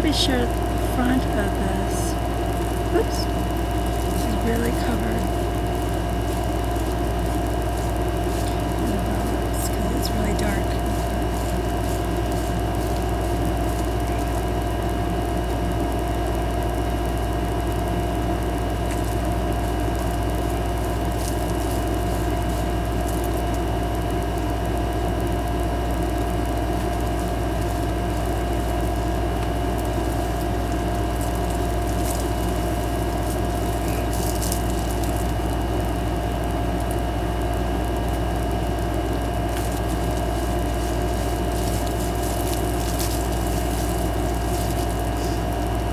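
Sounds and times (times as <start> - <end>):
mechanical hum with whining tone: 0.0 - 45.9.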